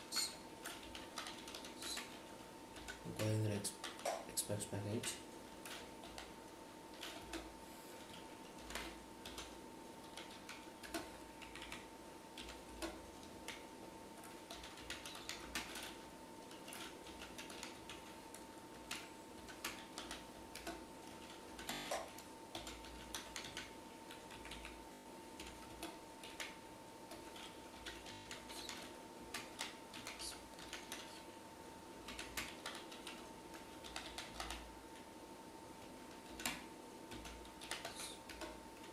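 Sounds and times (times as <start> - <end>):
computer keyboard typing: 0.0 - 31.3, 32.0 - 35.1, 35.8 - 38.9.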